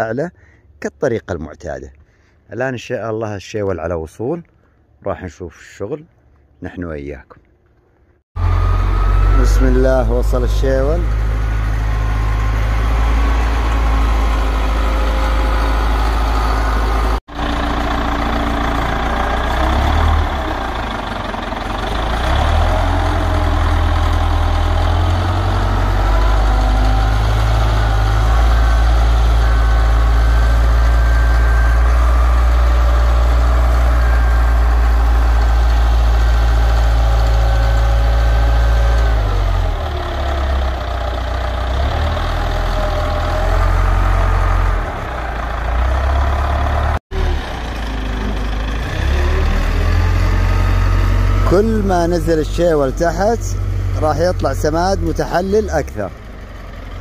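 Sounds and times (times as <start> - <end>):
loader diesel engine: 7.8 - 57.0.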